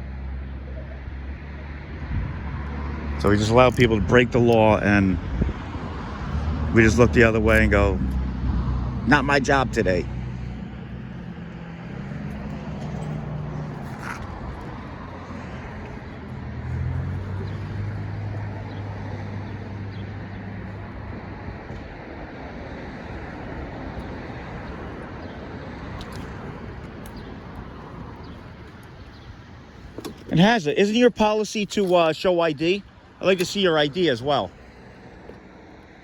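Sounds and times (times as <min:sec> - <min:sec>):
car engine humming nearby: 0:00.0 - 0:36.0
road traffic noise: 0:00.0 - 0:36.0.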